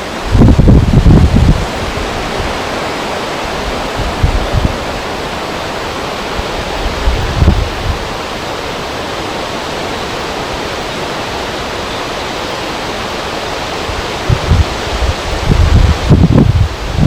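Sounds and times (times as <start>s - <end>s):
wind buffeting microphone: 0.0s - 12.2s, 13.0s - 17.0s
wind rushing over river: 0.0s - 17.0s.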